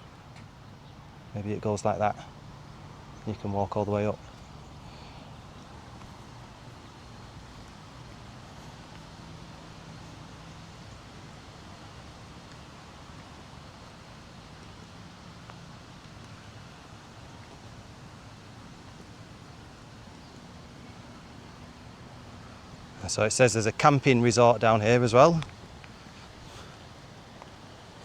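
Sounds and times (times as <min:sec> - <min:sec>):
faint outdoor background noise: 0:00.0 - 0:28.0.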